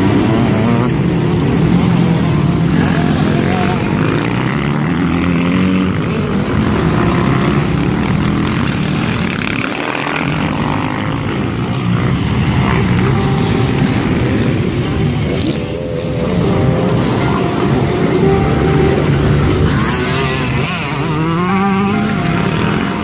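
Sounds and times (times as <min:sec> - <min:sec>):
dirt bike engines running: 0:00.0 - 0:23.0.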